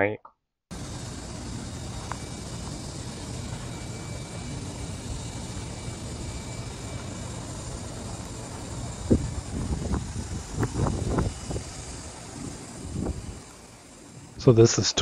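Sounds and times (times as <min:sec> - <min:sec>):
even hiss: 0:00.7 - 0:15.0
faint thin whine: 0:00.7 - 0:15.0
low hum: 0:00.7 - 0:15.0.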